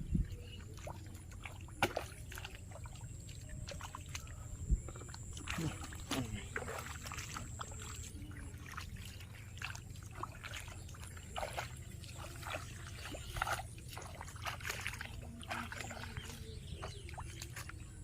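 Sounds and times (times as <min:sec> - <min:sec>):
water trickling: 0:00.0 - 0:18.0
small water splashes: 0:00.1 - 0:18.0.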